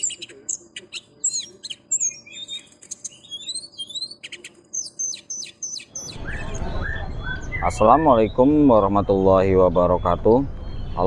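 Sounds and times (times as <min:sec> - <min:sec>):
outdoor crowd noise: 0:00.0 - 0:11.0
songbird chirping: 0:00.0 - 0:11.0.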